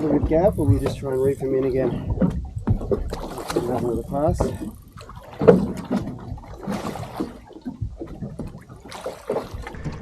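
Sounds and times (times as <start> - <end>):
water splashing against boat: 0.0 - 10.0.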